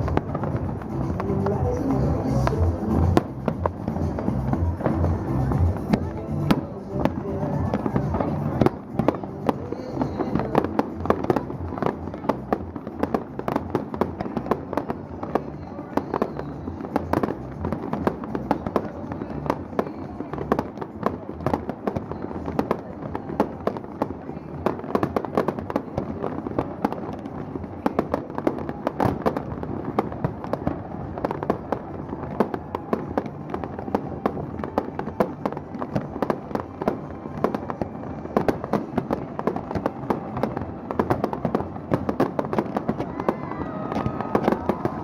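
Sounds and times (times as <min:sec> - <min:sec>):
fireworks popping and banging: 0:00.0 - 0:45.0.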